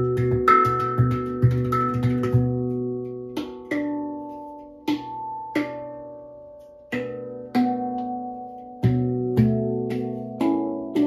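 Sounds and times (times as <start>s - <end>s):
handpan notes ringing: 0.0s - 11.0s.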